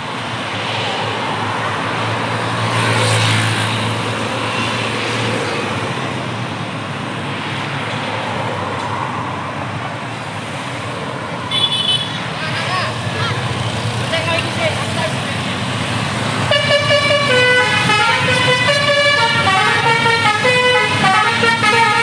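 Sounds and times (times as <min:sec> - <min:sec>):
heavy vehicle engine hum: 0:00.0 - 0:22.0
roadside traffic noise: 0:00.0 - 0:22.0.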